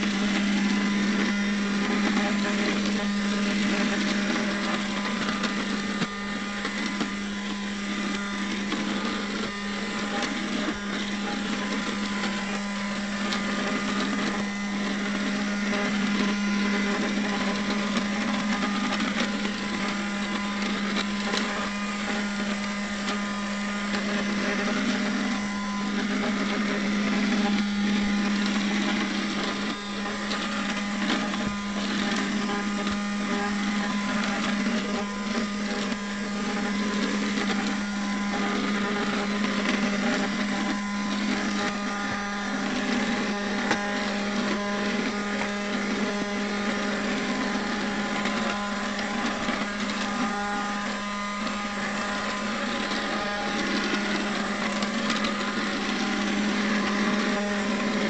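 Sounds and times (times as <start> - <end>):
robot vacuum motor whirring: 0.0 - 58.0.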